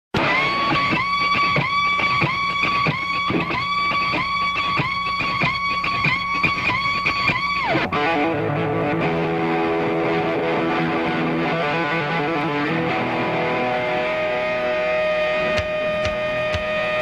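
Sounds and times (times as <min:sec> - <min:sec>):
electric guitar sliding notes: 0:00.2 - 0:17.0.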